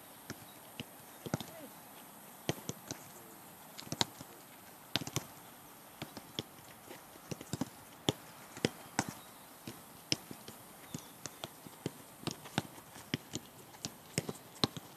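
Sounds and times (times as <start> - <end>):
footballs being kicked: 0.2 - 1.8, 2.4 - 3.2, 3.8 - 5.4, 6.0 - 14.9.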